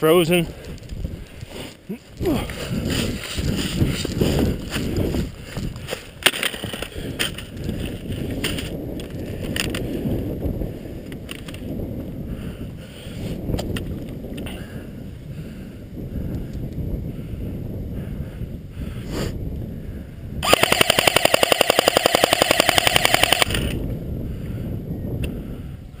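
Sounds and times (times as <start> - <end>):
wind rumble on microphone: 0.0 - 21.4, 22.3 - 26.0.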